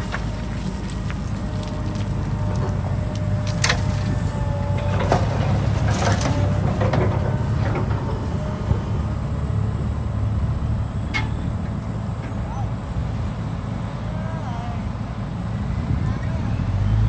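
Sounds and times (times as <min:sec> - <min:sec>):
heavy machine engine rumbling: 0:00.0 - 0:17.0.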